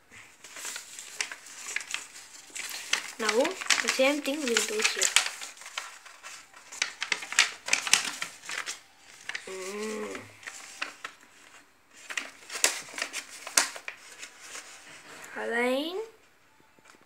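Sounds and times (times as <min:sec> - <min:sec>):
paper rustling and crackling: 0:00.3 - 0:15.4.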